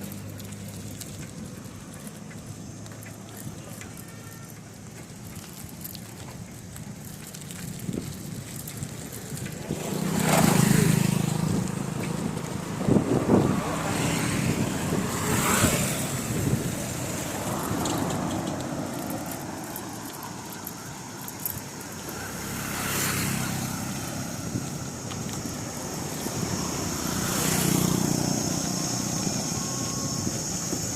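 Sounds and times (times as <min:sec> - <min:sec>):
road and wind rumble: 0:00.0 - 0:30.9
vehicles passing: 0:00.0 - 0:30.9.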